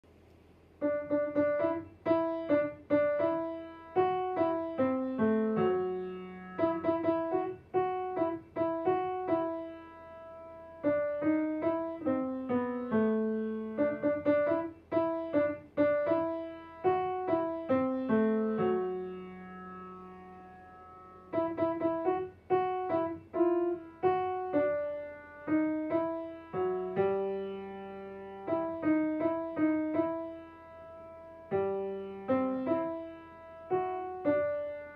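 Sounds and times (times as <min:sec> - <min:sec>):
grand piano tune: 0:00.8 - 0:34.9.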